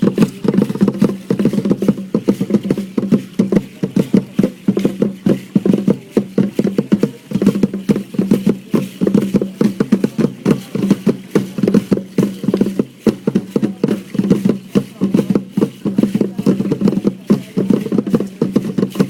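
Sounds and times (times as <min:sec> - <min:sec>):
fast rattling drumming: 0:00.0 - 0:19.0.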